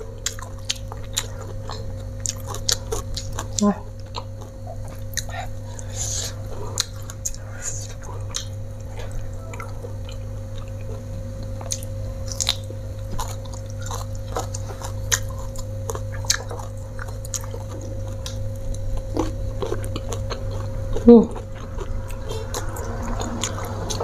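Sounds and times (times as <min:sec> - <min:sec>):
person chewing: 0:00.0 - 0:24.0
steady low hum: 0:00.0 - 0:24.0.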